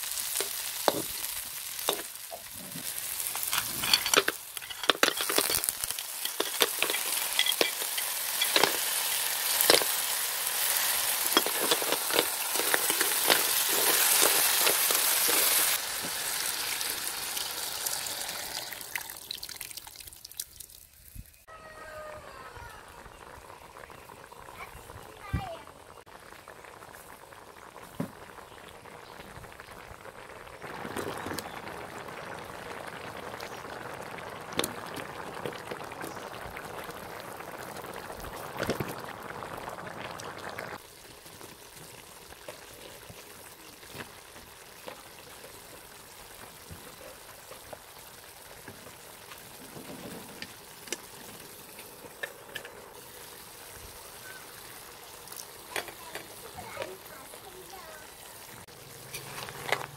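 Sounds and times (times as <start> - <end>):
coconut milk bubbling and hissing: 0.0 - 59.9.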